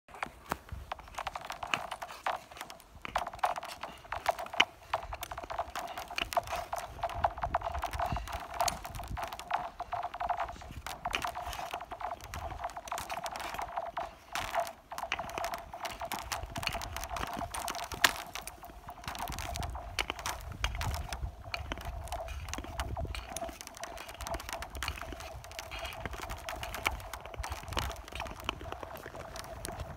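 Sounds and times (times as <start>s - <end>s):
skate and pole clicks on ice: 0.1s - 29.9s.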